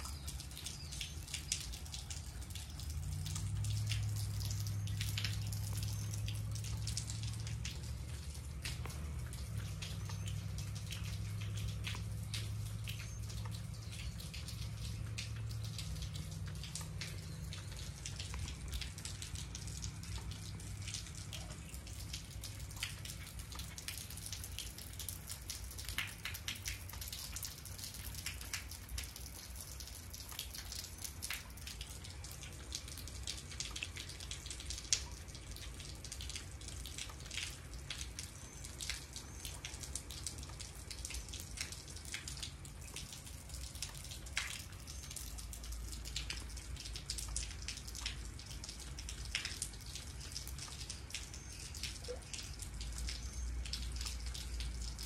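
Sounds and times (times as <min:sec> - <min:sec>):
raindrops on wet concrete: 0:00.0 - 0:55.0
raindrops plopping into puddle: 0:00.0 - 0:55.0.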